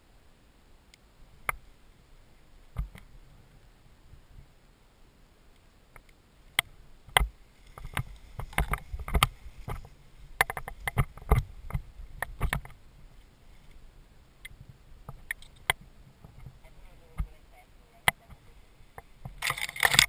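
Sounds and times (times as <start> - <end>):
lines clicking and rustling in grass: 0.9 - 3.5, 5.5 - 20.0.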